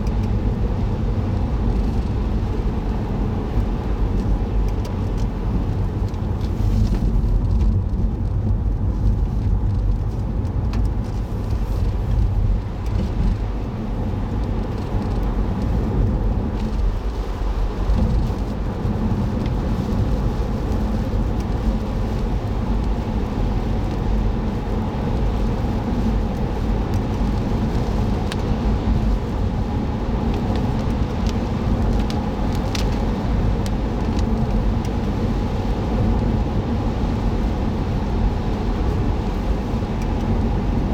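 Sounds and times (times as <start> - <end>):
car engine hum: 0.0 - 40.9
tyres rumbling on road: 0.0 - 40.9.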